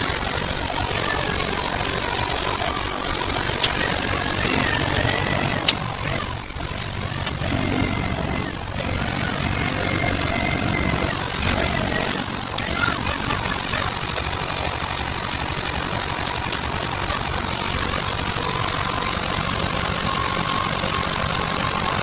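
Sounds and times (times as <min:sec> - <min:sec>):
forklift engine running: 0:00.0 - 0:22.0.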